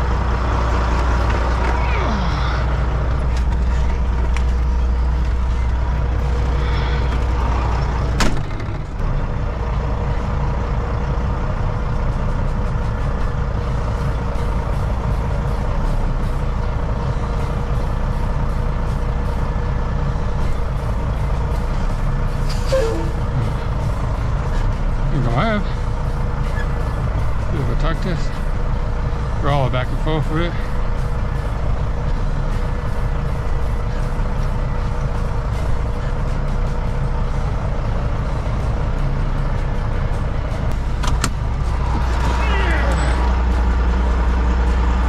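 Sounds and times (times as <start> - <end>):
diesel truck engine running: 0.0 - 45.0.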